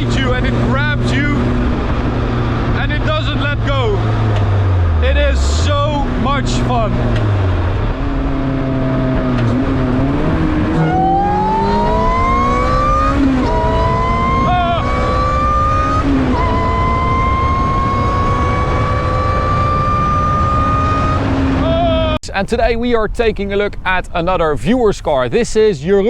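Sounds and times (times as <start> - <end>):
car engine accelerating hard: 0.0 - 22.2.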